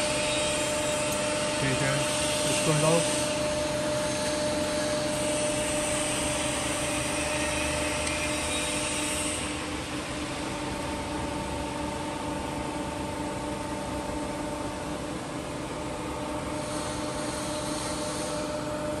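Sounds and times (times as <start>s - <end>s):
grinder humming and whining: 0.0s - 19.0s.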